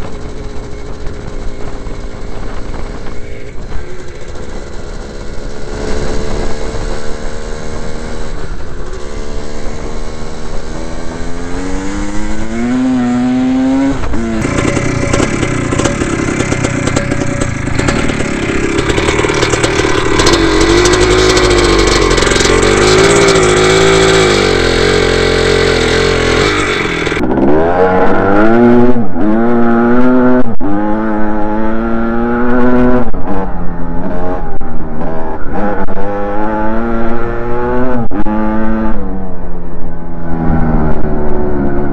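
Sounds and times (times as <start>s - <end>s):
dirt bike engines revving: 0.0s - 39.4s, 40.1s - 41.9s.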